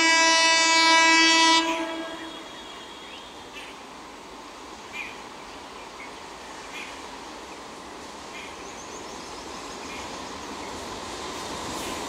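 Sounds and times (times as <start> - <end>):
faint train rumble: 0.0 - 12.0.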